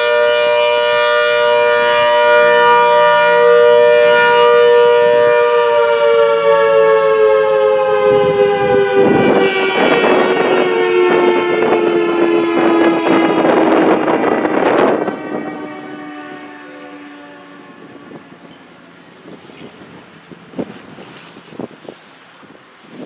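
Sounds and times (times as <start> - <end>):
warning siren winding down: 0.0 - 22.5.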